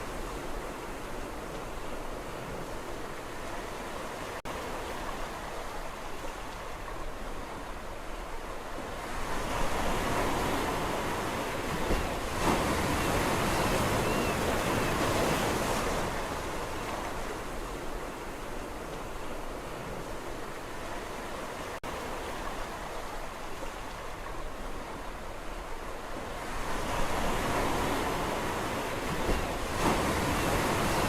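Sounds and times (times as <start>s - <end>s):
sea waves on a shore: 0.0s - 31.0s.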